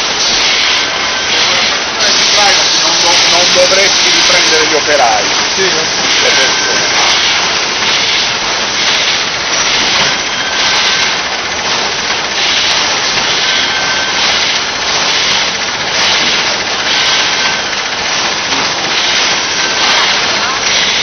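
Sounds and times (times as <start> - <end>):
packaging machine running: 0.0 - 21.0
rhythmic machine hiss: 0.0 - 21.0.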